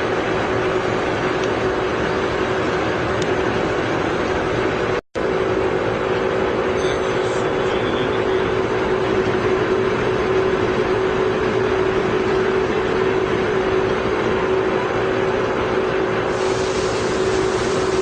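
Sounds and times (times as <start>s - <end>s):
lathe mechanical hum: 0.0s - 18.0s.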